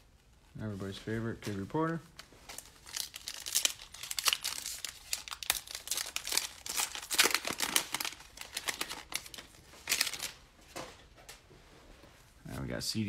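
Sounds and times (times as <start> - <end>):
plastic wrapper crinkling and tearing: 0.0 - 10.5.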